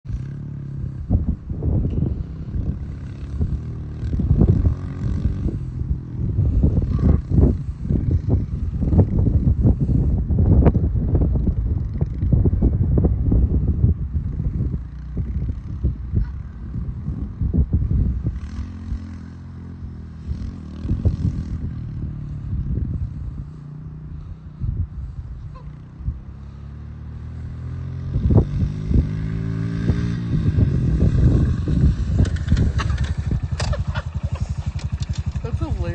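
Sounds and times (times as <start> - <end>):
low buffeting: 0.0 - 35.9
dirt bike engine revving: 0.1 - 10.7, 14.3 - 35.9.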